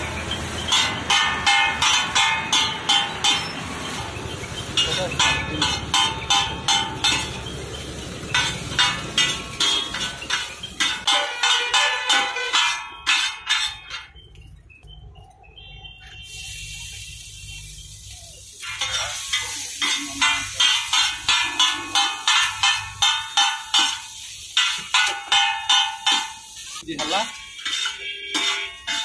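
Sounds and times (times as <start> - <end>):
metal spatulas clanking on griddle: 0.0 - 14.2, 18.6 - 29.0.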